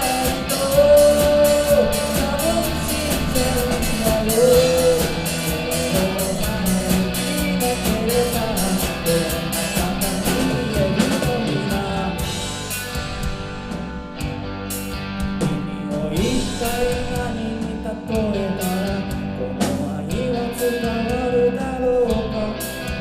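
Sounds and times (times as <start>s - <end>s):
person singing: 0.0s - 12.7s, 15.4s - 23.0s
drum and cymbal hits: 0.0s - 23.0s
rock band playing live: 0.0s - 23.0s.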